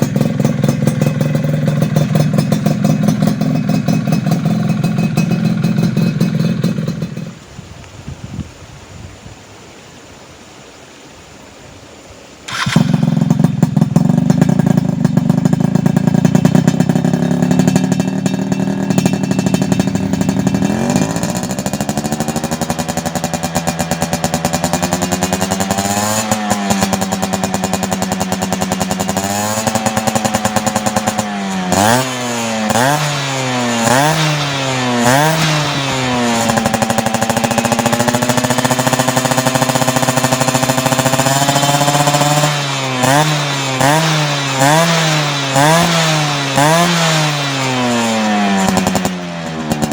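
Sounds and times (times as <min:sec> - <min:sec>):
two-stroke motorcycle engine revving: 0:00.0 - 0:07.5, 0:12.5 - 0:49.9.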